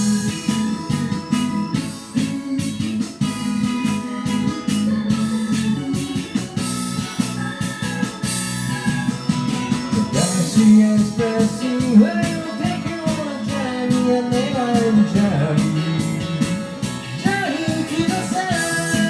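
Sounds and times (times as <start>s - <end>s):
bending lead guitar melody: 0.0s - 19.0s
rock band playing: 0.0s - 19.0s.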